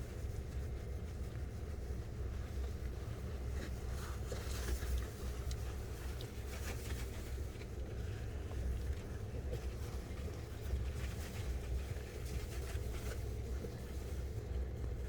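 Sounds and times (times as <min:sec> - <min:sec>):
faint rustles and clicks: 0:00.0 - 0:15.0.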